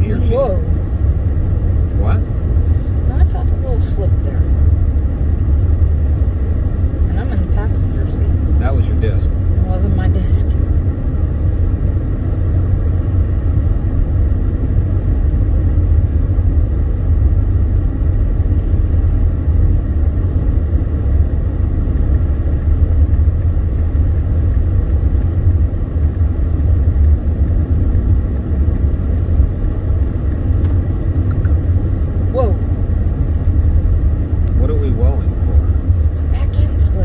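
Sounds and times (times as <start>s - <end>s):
car engine rumble from inside: 0.0s - 37.0s.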